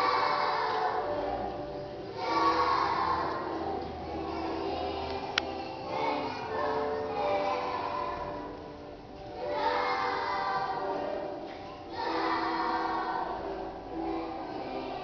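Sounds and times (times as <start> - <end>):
distant choir singing: 0.0 - 15.0.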